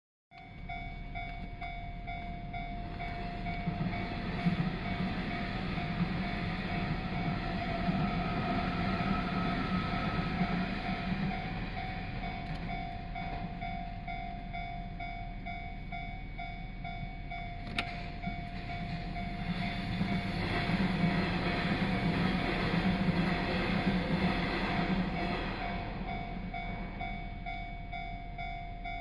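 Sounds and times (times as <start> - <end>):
train passing: 0.4 - 29.0.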